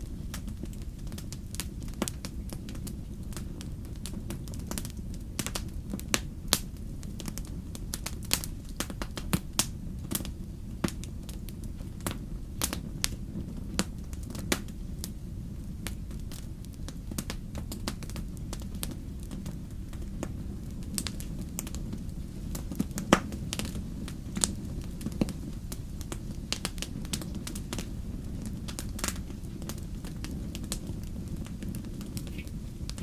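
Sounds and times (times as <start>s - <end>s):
campfire burning: 0.0s - 33.0s
fire crackles and pops: 0.0s - 33.0s.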